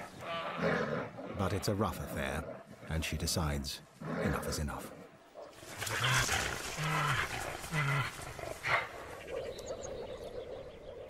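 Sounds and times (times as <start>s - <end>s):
bears growling and roaring: 0.0s - 11.0s.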